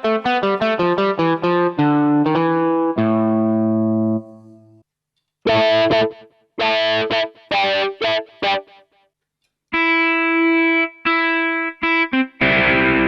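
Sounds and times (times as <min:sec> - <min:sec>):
keyboard guitar tone notes: 0:00.0 - 0:04.4, 0:05.5 - 0:08.8, 0:09.7 - 0:13.0.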